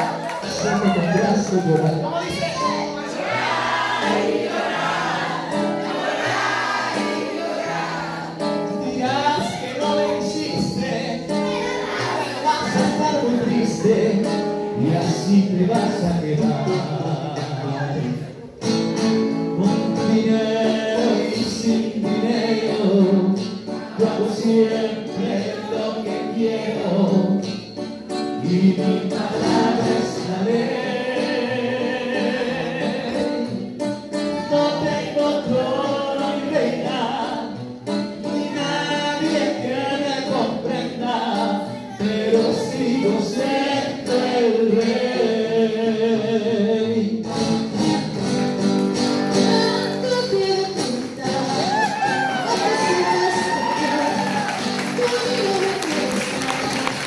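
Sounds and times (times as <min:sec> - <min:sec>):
acoustic guitar: 0:00.0 - 0:57.0
person singing: 0:07.7 - 0:18.6, 0:19.4 - 0:48.4, 0:49.0 - 0:57.0.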